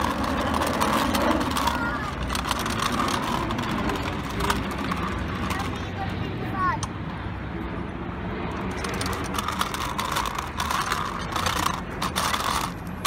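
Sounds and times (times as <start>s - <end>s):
small bicycle rattling and clicking: 0.0s - 7.0s, 8.5s - 13.0s
street noise: 0.0s - 13.0s.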